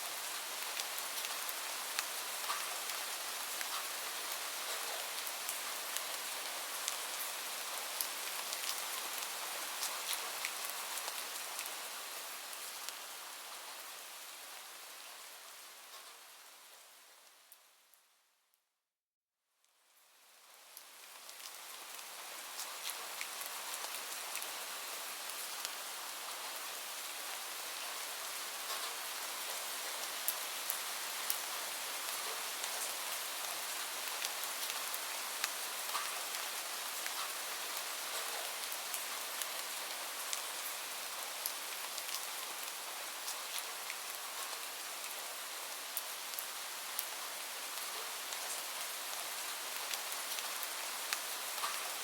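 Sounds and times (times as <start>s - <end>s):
rain falling: 0.0s - 17.7s, 19.9s - 52.0s.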